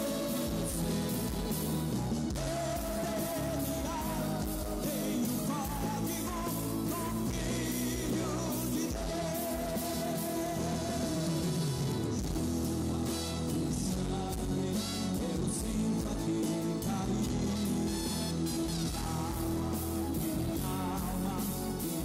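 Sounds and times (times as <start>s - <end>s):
man singing: 0.0s - 22.0s
rock band playing: 0.0s - 22.0s.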